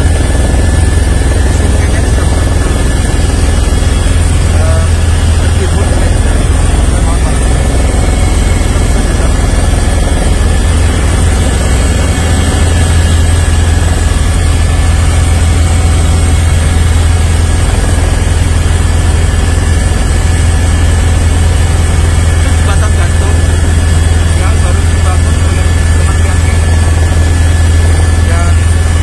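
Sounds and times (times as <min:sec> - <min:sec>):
helicopter engine and rotor drone: 0:00.0 - 0:29.0
thin high whine: 0:00.0 - 0:29.0.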